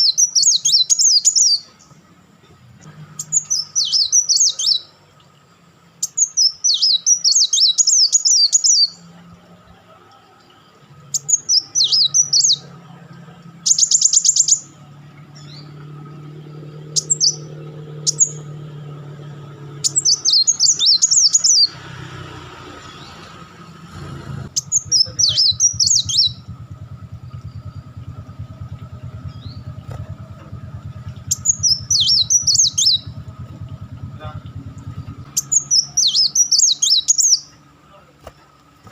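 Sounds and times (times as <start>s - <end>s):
bird chattering song: 0.0s - 2.0s, 3.1s - 5.0s, 6.0s - 9.1s, 10.8s - 22.0s, 24.4s - 37.8s
low steady hum: 0.0s - 38.9s.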